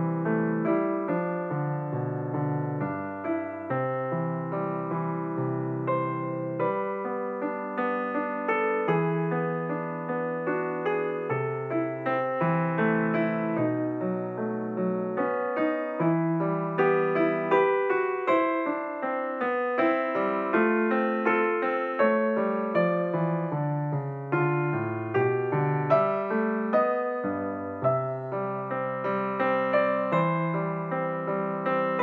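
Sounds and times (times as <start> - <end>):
electric piano notes: 0.0 - 32.0.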